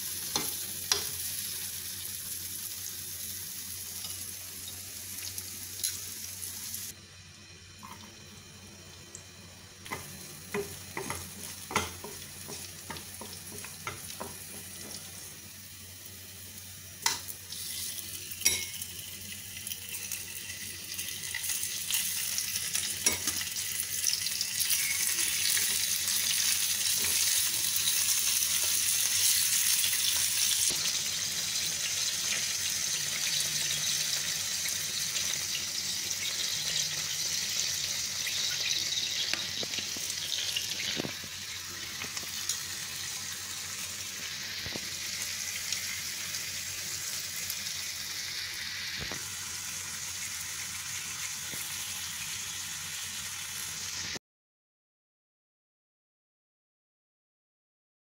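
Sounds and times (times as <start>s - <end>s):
meat sizzling in a pan: 0.0s - 54.2s.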